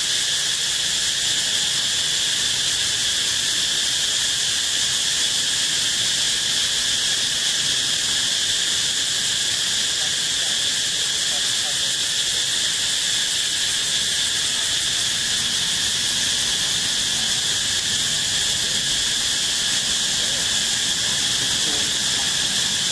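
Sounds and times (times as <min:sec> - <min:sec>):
insect chorus drone: 0:00.0 - 0:22.9.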